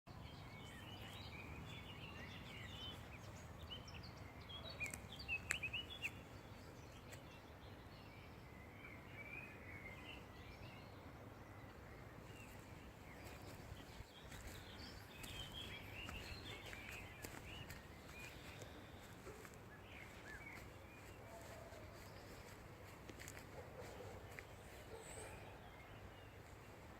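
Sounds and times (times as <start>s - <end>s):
small birds chirping: 0.1s - 26.9s.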